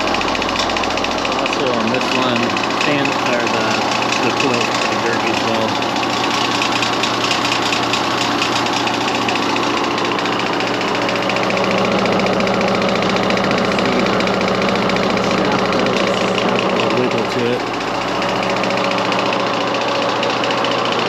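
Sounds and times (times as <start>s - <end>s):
fan motor humming: 0.0s - 21.0s
fast rattle: 0.0s - 21.0s.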